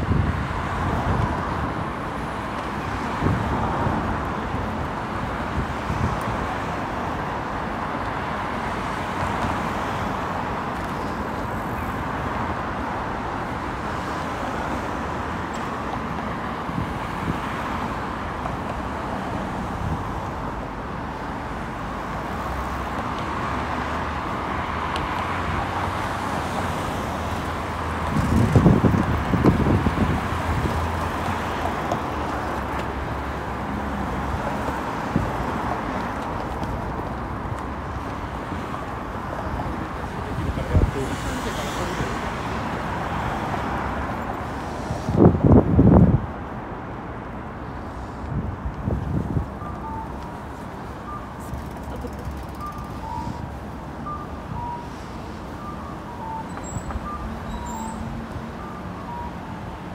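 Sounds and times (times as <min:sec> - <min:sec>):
traffic noise: 0:00.0 - 0:59.9.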